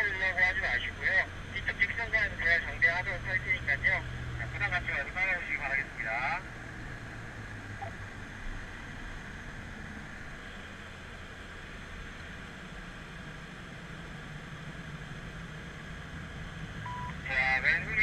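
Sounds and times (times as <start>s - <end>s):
car engine drone: 0.0s - 18.0s
road noise inside car: 0.0s - 18.0s.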